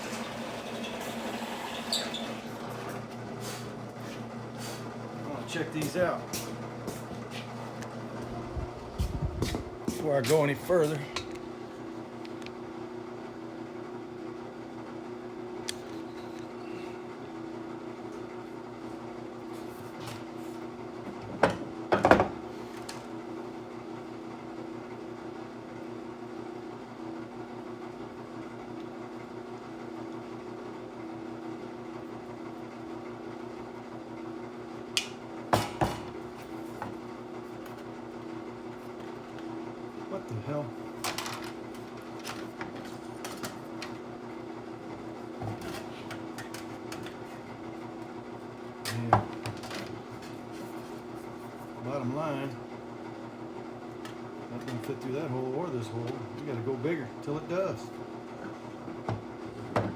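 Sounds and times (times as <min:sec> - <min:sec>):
electric machine hum: 0:00.0 - 0:59.9.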